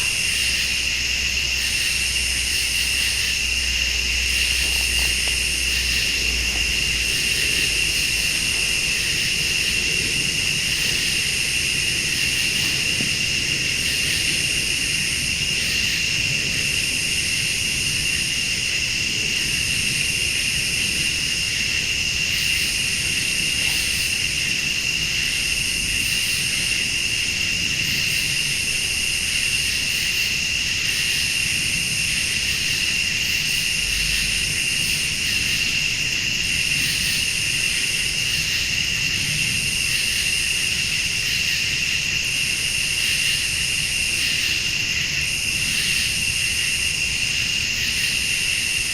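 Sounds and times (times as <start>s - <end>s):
crickets trilling: 0.0s - 48.9s
high insect buzz: 0.0s - 48.9s.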